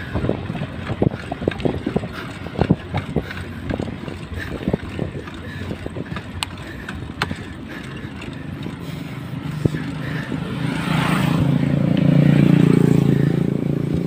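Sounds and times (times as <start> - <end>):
bike knocks and clicks: 0.0 - 12.0
bicycle road rumble: 0.0 - 14.0
wind buffeting microphone: 0.0 - 14.0.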